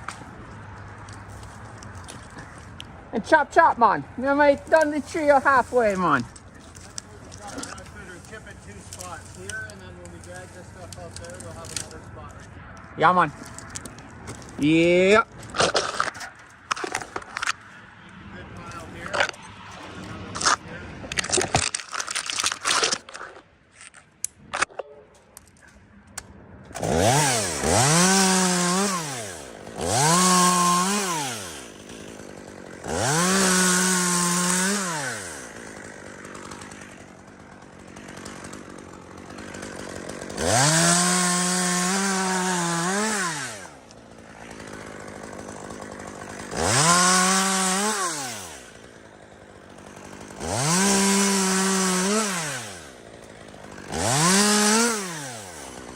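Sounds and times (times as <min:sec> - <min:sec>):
chainsaw revving and idling: 0:00.0 - 0:21.6, 0:26.7 - 0:55.9.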